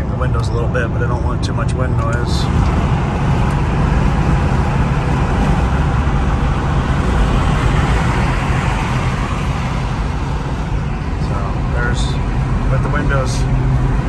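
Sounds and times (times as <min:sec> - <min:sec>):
car engine droning: 0:00.0 - 0:14.0
road and tyre noise: 0:00.0 - 0:14.0.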